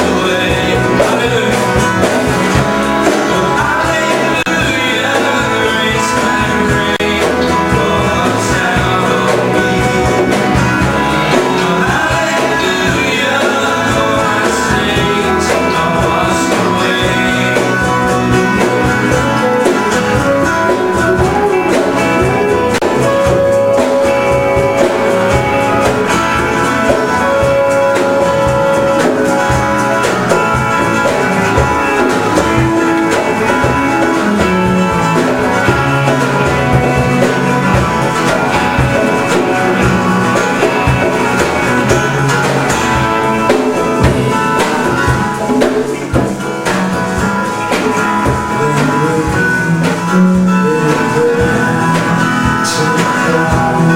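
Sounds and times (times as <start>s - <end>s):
bass guitar: 0.0s - 53.9s
drum kit: 0.0s - 53.9s
guitars: 0.0s - 53.9s.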